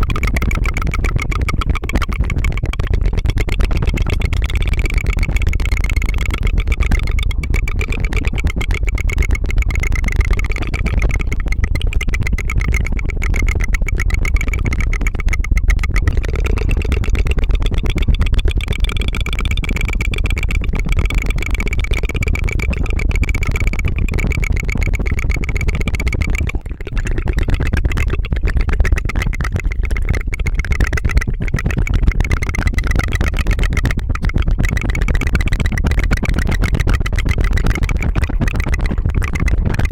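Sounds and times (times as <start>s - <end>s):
tongue fluttering: 0.0s - 39.9s.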